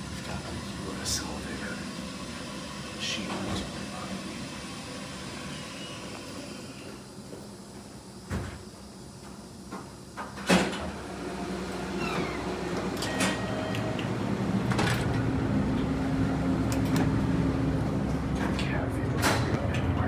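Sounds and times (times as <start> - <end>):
elevator doors closing: 0.0 - 7.2, 10.3 - 20.0
elevator low hum: 0.0 - 20.0.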